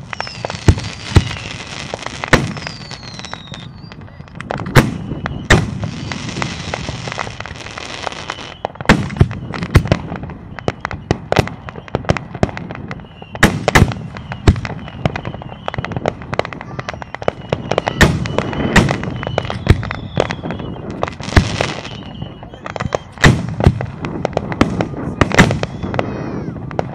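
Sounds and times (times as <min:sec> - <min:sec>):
firework bangs: 0:00.0 - 0:26.9
firework crackling hiss: 0:00.0 - 0:26.9.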